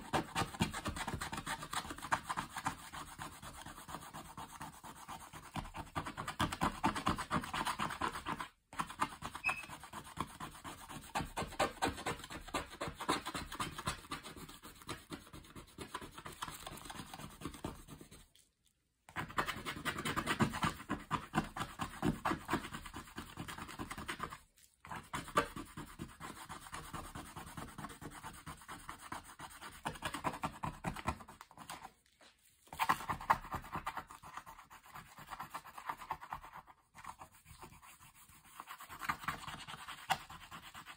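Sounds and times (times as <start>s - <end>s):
eraser rubbing on paper: 0.0s - 18.4s, 19.2s - 31.9s, 32.7s - 40.9s.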